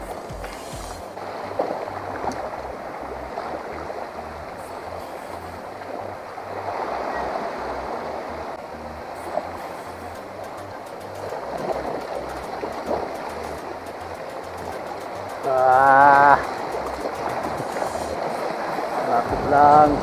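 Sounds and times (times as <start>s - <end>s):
small waves washing over rocks: 0.0s - 8.0s, 11.2s - 20.0s
low uneven rumble: 0.0s - 20.0s.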